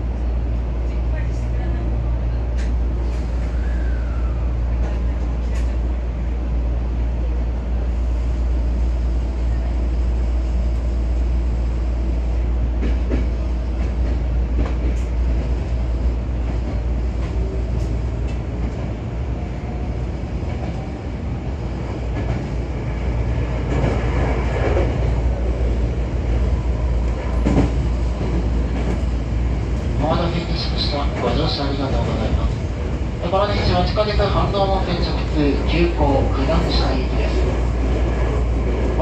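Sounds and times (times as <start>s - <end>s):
train rumble inside carriage: 0.0s - 39.0s.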